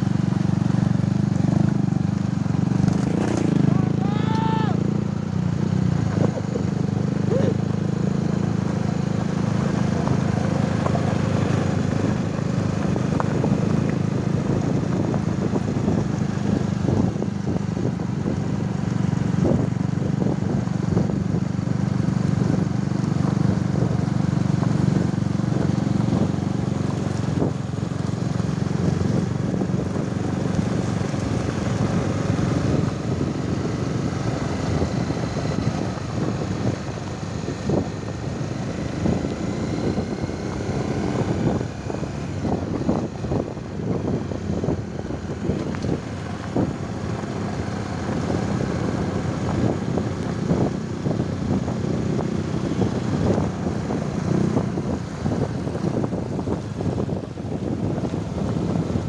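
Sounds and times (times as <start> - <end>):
small motorcycle engine running: 0.0 - 59.0.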